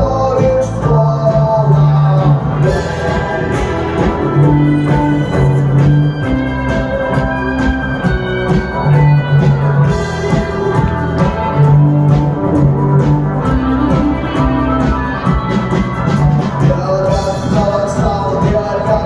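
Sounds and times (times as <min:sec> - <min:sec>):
bass notes: 0:00.0 - 0:19.0
drum kit beat: 0:00.0 - 0:19.0
guitar: 0:00.0 - 0:19.0.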